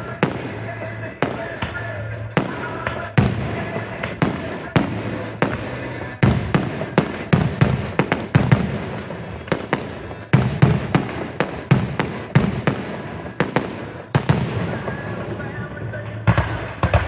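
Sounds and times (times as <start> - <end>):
fireworks banging: 0.0 - 17.0.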